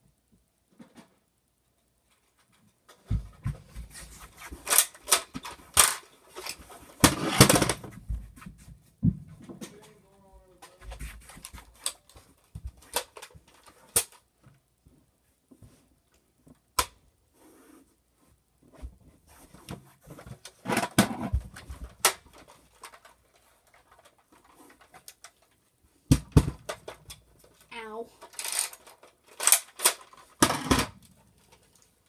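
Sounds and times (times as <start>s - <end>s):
objects being handled: 2.0s - 14.6s, 17.3s - 32.0s.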